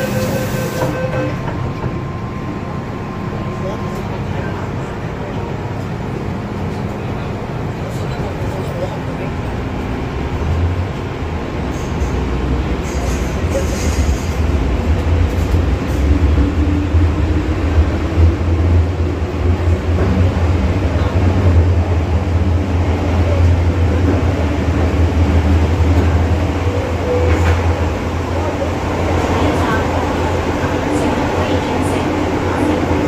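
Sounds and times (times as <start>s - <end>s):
metro train rumbling: 0.0s - 33.0s.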